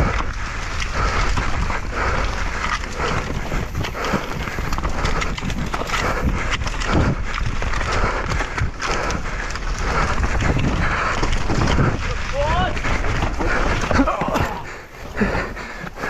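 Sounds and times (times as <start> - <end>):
bike rattling and clattering: 0.0 - 16.0
wind and tyre rumble: 0.0 - 16.0.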